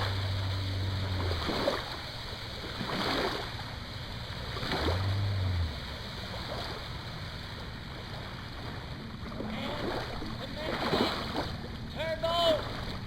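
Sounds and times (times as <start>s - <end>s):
loud water splashes: 0.0s - 13.0s
water rushing against boat hull: 0.0s - 13.0s.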